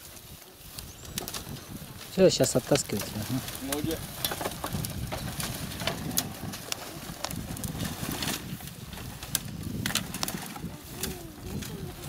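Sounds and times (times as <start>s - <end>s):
dry brushwood rustling: 0.0s - 12.0s
twigs cracking: 0.0s - 12.0s.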